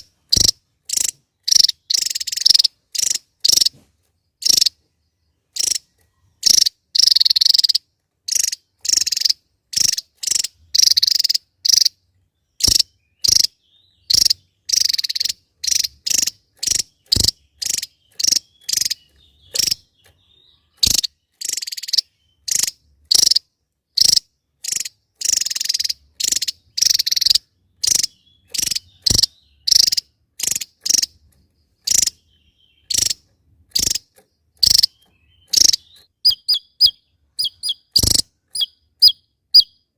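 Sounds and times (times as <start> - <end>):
bird harsh rasping calls: 0.0 - 3.8, 4.4 - 4.8, 5.5 - 39.9.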